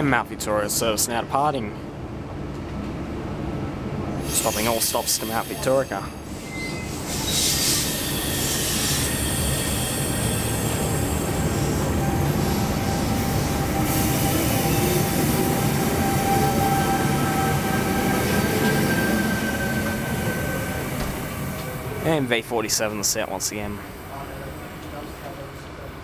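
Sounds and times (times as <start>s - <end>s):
train whine: 0.0s - 26.0s
train wheels rumbling: 2.0s - 25.9s.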